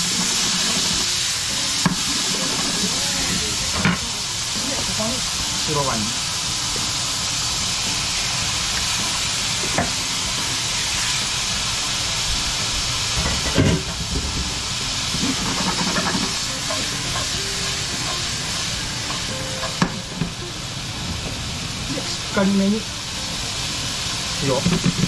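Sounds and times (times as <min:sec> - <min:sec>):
frying pans sizzling: 0:00.0 - 0:25.0.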